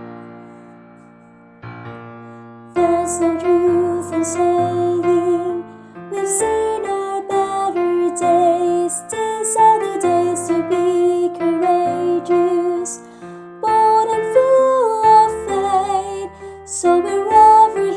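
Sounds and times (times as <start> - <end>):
piano chords: 0.0 - 17.9
soprano singing with vibrato: 2.8 - 17.9.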